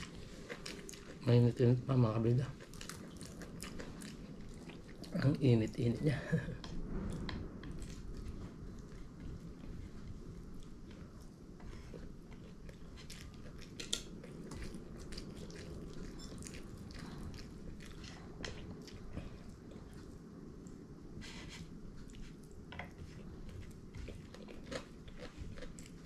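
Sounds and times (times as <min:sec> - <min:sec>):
chewing and crunching: 0:00.0 - 0:06.0, 0:07.1 - 0:20.8, 0:21.9 - 0:26.0
low background rumble: 0:00.0 - 0:26.0.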